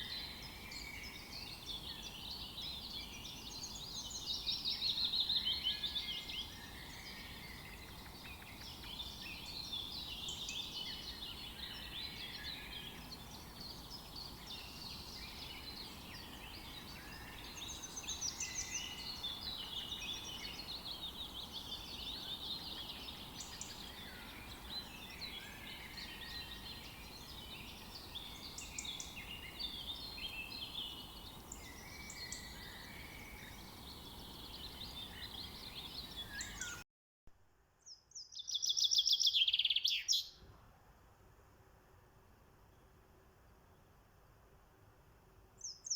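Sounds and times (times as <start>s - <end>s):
sparrows chirping: 0.0s - 36.8s, 38.2s - 40.4s.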